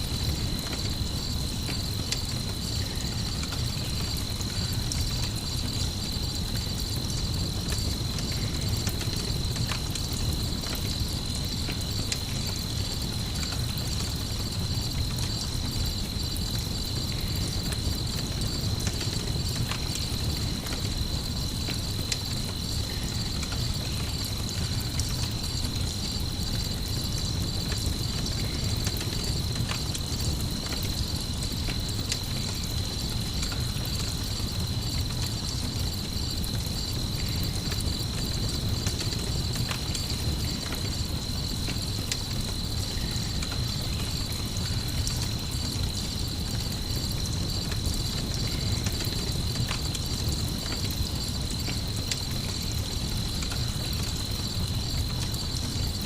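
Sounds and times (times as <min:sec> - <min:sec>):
campfire crackling: 0:00.0 - 0:56.0
crickets chirping: 0:00.0 - 0:56.0.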